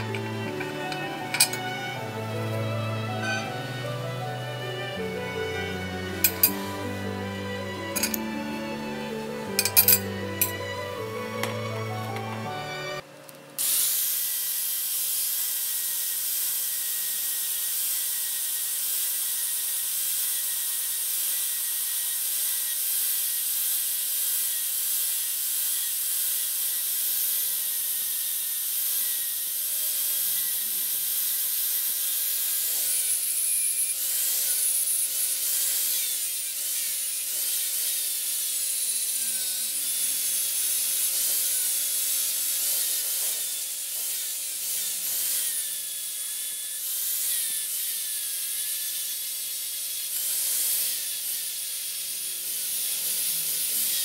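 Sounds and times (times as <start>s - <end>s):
angle grinder grinding metal: 0.0s - 13.0s, 13.6s - 54.0s.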